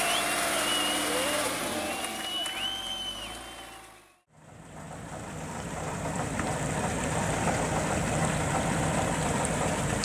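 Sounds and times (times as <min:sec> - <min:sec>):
truck diesel engine under load: 0:00.0 - 0:10.0.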